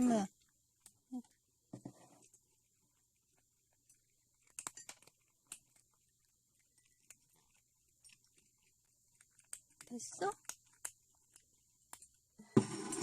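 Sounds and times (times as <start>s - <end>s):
cat eating crunches: 0.3s - 12.4s.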